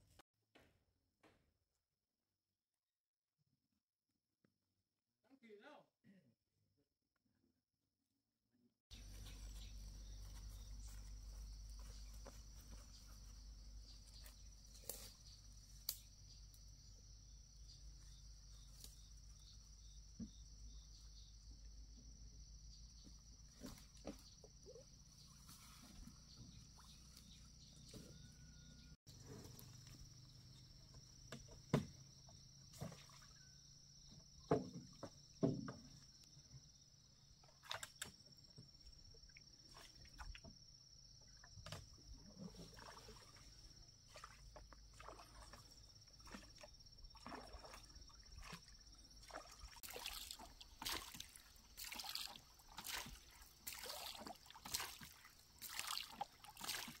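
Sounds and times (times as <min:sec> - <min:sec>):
faint insect chirring: 0:08.9 - 0:56.8.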